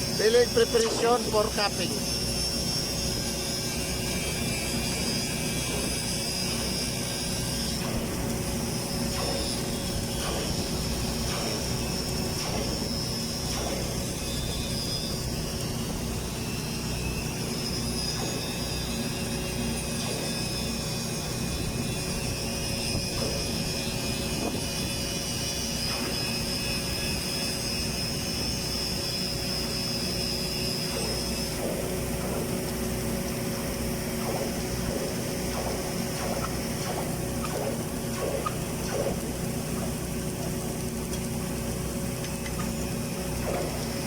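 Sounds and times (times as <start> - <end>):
high whine: 0.0 - 44.0
machinery hum: 0.0 - 44.0.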